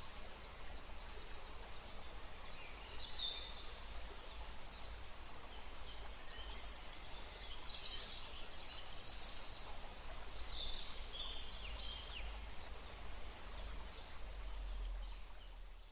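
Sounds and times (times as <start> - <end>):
low rumble and hiss: 0.0 - 15.9
songbirds chirping: 0.0 - 15.9.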